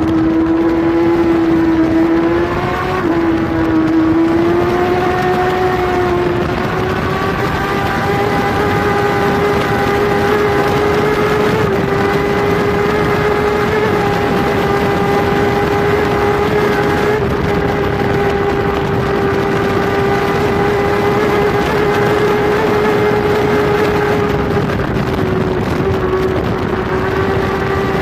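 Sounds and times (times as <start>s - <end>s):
motorcycle engine at high revs: 0.0s - 28.0s
wind rush: 0.0s - 28.0s.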